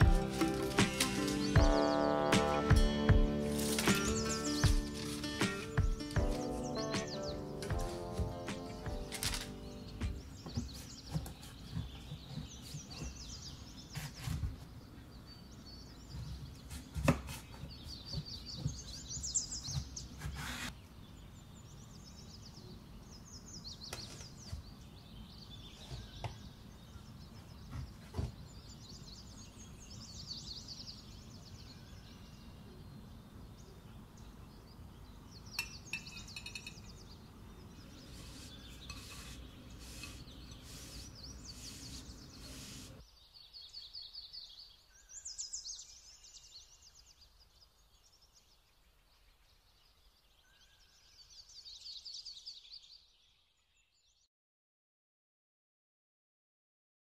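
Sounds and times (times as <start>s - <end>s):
small birds chirping: 0.0s - 54.3s.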